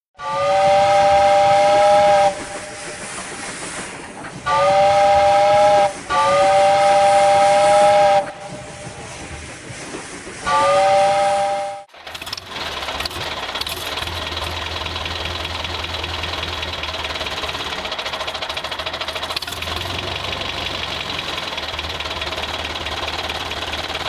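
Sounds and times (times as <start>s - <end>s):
steam hiss: 0.2s - 24.0s.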